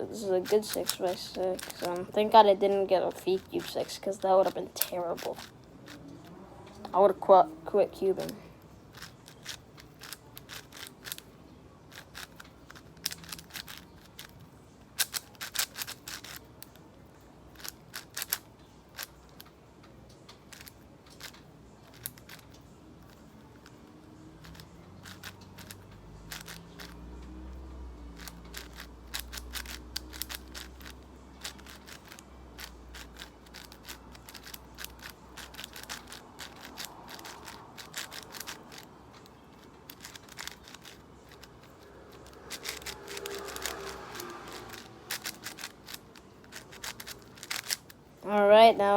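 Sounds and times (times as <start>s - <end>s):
speed cube clicking: 0.1s - 6.3s, 8.1s - 16.8s, 17.5s - 19.6s, 20.4s - 27.4s, 28.0s - 48.0s.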